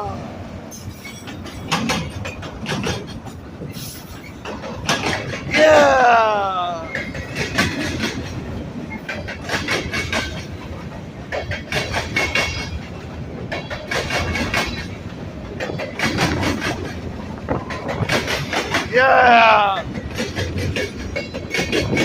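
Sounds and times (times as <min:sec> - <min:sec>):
train cars rumbling past: 0:00.0 - 0:22.0
wheels clacking over rail joints: 0:00.2 - 0:06.0, 0:06.8 - 0:22.0.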